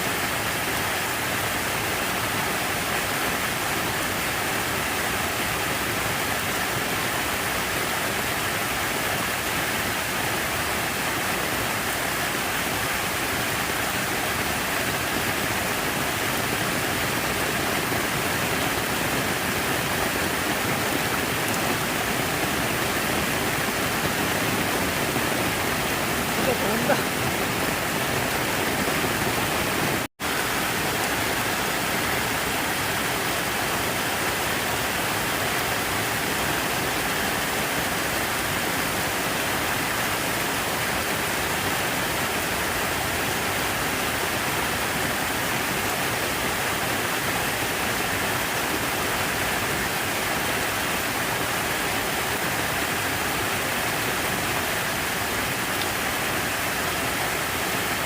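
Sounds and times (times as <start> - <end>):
falling water rushing: 0.0 - 58.0.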